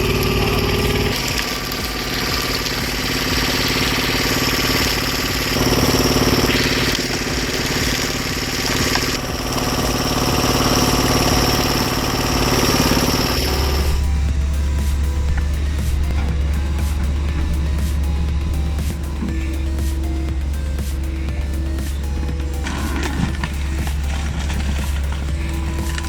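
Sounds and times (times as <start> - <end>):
deep low hum: 0.0 - 26.0
log splitter engine running: 0.0 - 26.0.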